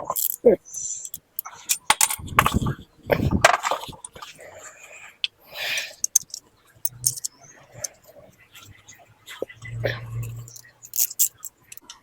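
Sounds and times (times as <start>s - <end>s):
metal parts and tools clinking: 0.0s - 5.0s, 5.7s - 12.0s.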